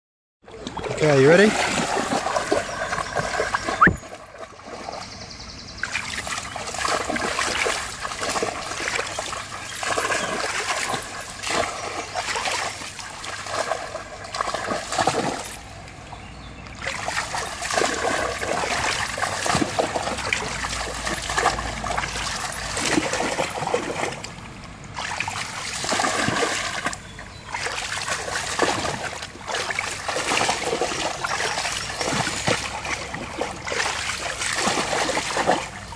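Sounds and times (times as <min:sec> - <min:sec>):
dog splashing through a stream: 0:00.5 - 0:35.9.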